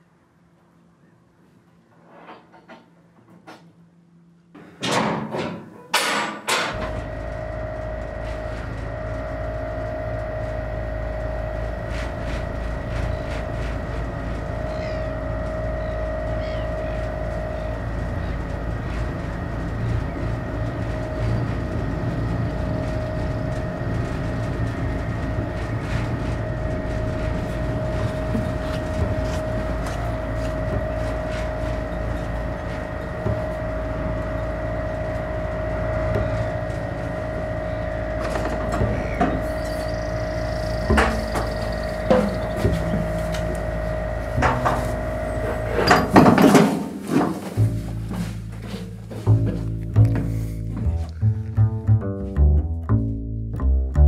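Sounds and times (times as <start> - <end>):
engine whine: 6.2 - 54.0
boat engine running: 6.7 - 54.0.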